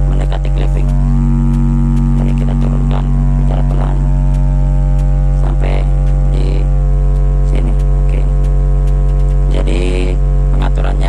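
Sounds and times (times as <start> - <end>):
low sine-wave test tone: 0.0 - 11.0.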